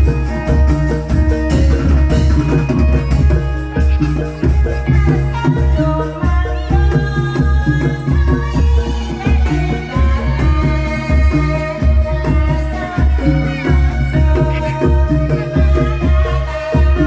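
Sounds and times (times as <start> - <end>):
hand drums: 0.0 - 17.0
ringing pitched percussion: 0.0 - 17.0.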